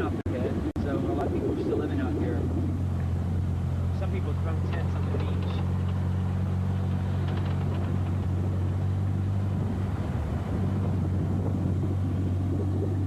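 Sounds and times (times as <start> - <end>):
car engine hum: 0.0 - 13.0
road and wind noise: 0.0 - 13.0.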